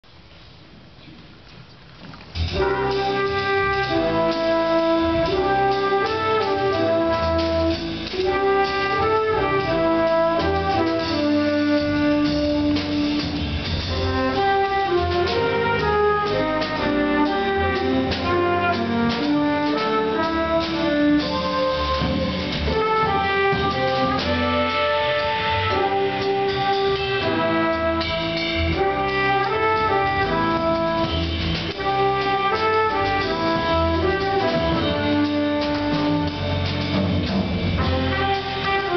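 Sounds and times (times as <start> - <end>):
double bass: 0.0 - 38.9
piano: 0.1 - 38.9
drum kit: 1.0 - 38.9
trumpet: 2.4 - 38.9.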